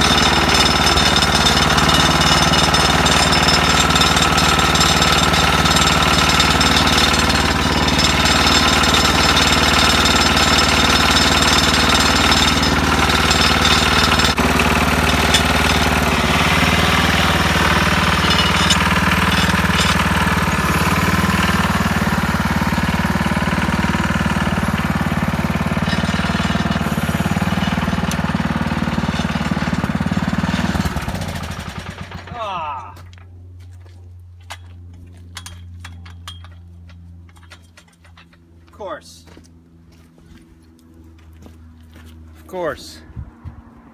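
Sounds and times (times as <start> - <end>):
garden tractor engine running: 0.0 - 40.1.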